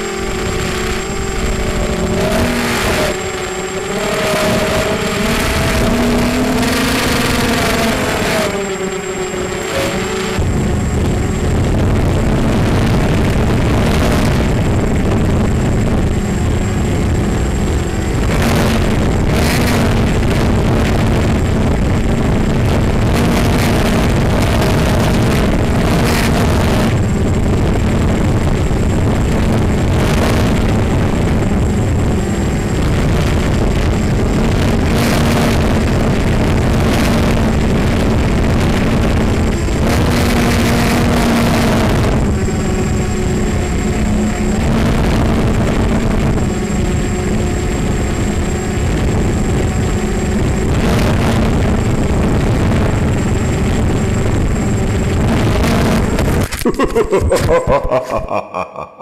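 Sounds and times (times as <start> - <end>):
drone motors and propellers whining: 0.0 - 58.5
wind rushing over microphone: 0.0 - 58.6.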